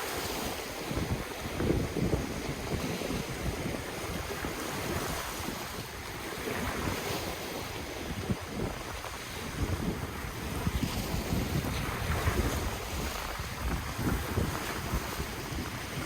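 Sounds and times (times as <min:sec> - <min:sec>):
ocean waves washing in: 0:00.0 - 0:16.0
wind buffeting microphone: 0:00.0 - 0:16.0.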